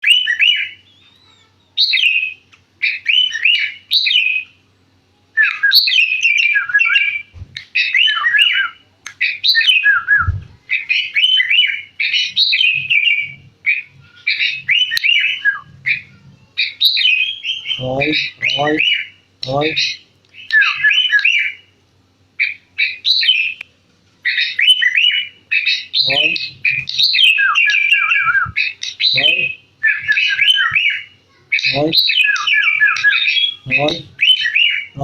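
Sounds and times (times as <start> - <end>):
bird singing whistled phrases: 0.0 - 4.6, 5.4 - 21.7, 22.4 - 35.0.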